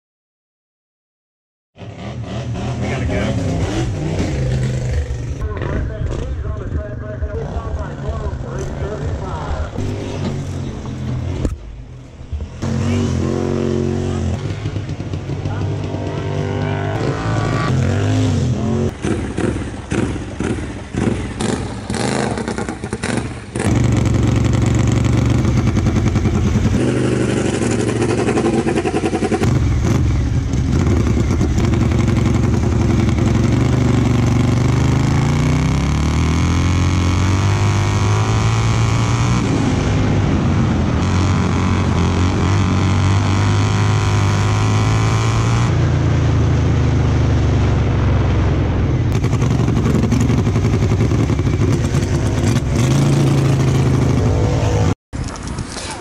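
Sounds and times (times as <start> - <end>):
lawn mower engine revving: 1.8 - 6.4, 7.4 - 11.6, 12.5 - 55.0.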